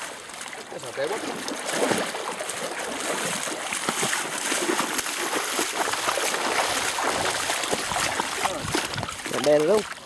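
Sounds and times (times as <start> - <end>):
stream rushing: 0.0 - 10.0
water splashing around wading legs: 0.0 - 10.0.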